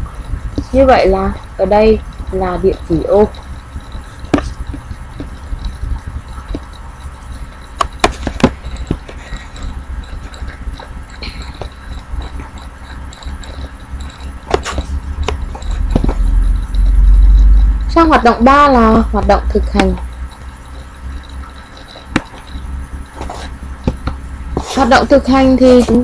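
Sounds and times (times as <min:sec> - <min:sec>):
room noise rumble: 0:00.0 - 0:26.0
sharp clicks and knocks: 0:02.0 - 0:24.6.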